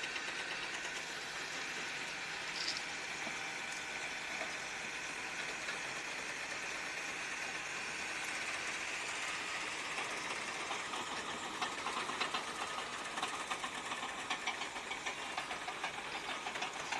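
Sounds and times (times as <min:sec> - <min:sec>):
heavy machinery running: 0:00.0 - 0:16.9.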